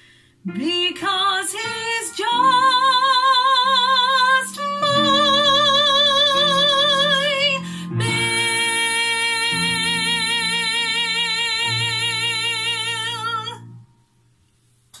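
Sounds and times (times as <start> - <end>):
woman singing with vibrato: 0.5 - 13.8.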